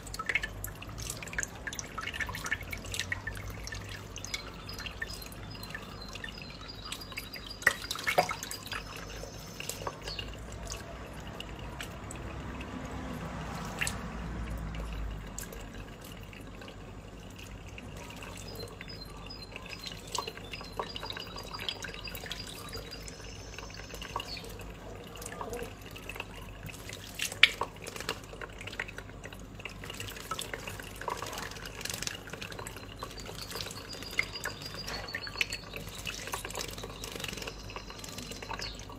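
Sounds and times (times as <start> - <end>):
sharp water splashes: 0.0 - 38.9
water dripping and trickling: 0.0 - 38.9.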